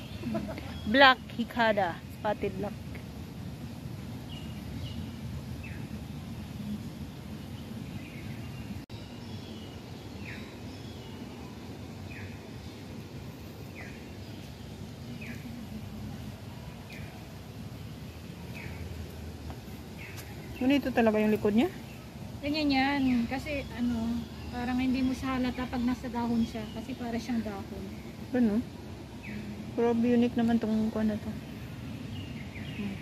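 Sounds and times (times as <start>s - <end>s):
low outdoor rumble: 0.0s - 33.0s
bird chirping: 4.2s - 33.0s.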